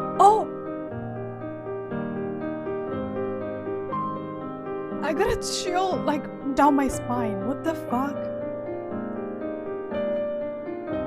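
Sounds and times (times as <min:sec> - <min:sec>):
piano with slow held notes: 0:00.0 - 0:11.0.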